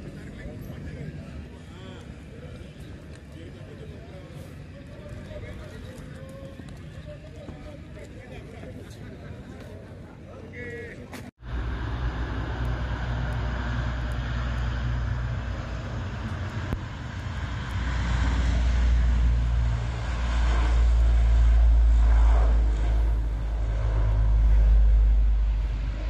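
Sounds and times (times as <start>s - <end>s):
turboprop engines running: 0.0s - 26.0s.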